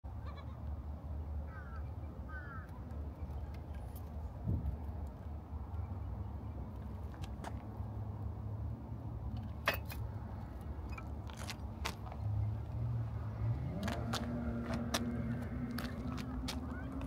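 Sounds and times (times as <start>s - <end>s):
road traffic rumble: 0.1s - 17.0s
vehicle engine humming: 0.1s - 17.0s.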